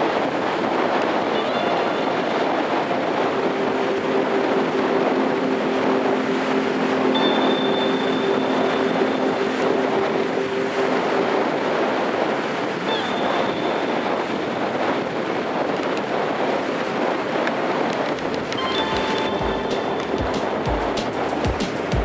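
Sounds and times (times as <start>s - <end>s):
strong wind blowing: 0.0s - 22.0s.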